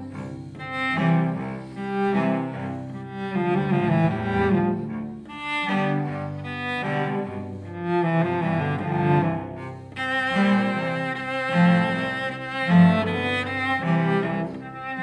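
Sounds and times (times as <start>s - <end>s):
cellos playing a minuet: 0.0s - 15.0s.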